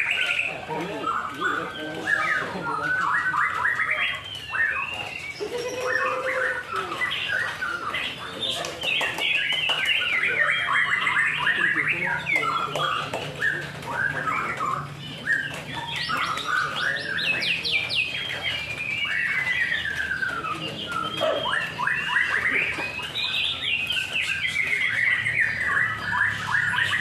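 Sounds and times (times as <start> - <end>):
songbird whistling and trilling: 0.0 - 27.0.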